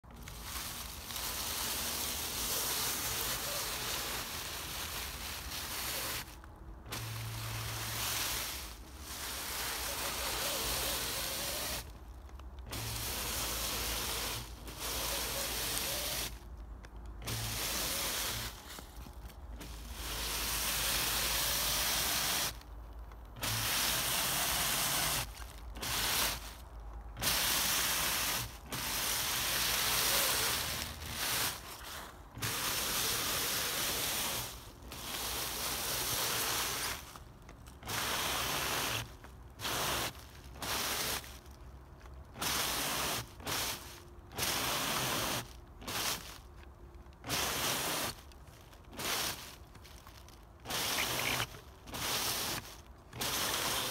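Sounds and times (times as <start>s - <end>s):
tyres churning in leaves and snow: 0.0s - 53.9s
toy car motor whirring: 0.1s - 16.4s, 17.2s - 22.7s, 23.3s - 26.6s, 27.2s - 41.4s, 48.9s - 53.9s.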